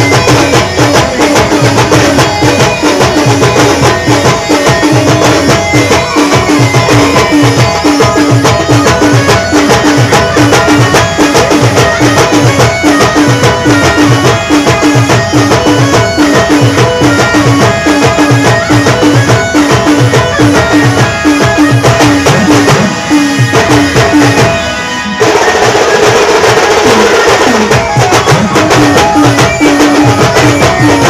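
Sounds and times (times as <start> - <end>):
repeating dance melody: 0.0 - 25.2, 27.2 - 31.0
fast drum beat: 0.0 - 31.0.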